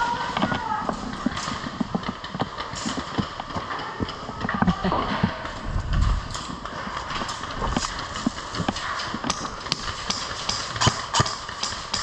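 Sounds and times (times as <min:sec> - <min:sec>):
running footsteps: 0:00.0 - 0:12.0.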